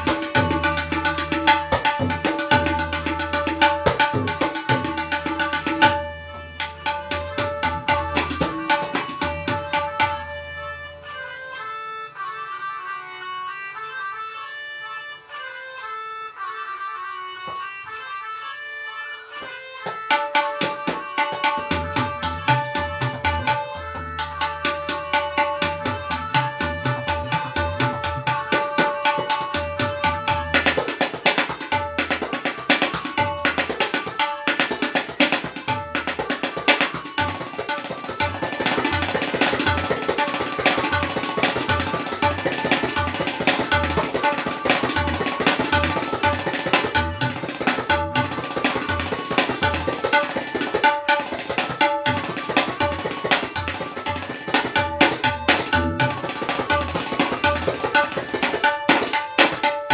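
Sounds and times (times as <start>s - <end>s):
fast tabla strokes: 0.0s - 10.7s, 19.8s - 59.9s
melodic accompaniment of held notes: 0.0s - 59.9s.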